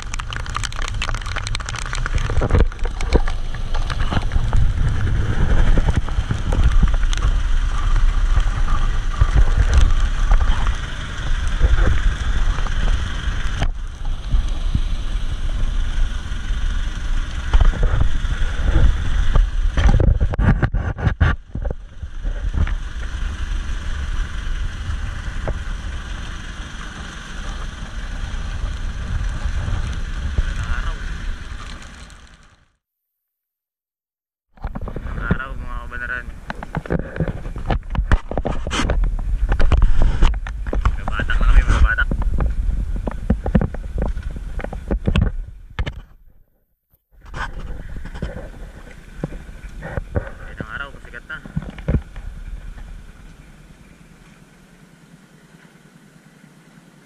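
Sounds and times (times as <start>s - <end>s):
wind buffeting microphone: 0.0s - 32.4s, 34.6s - 46.0s, 47.2s - 54.4s.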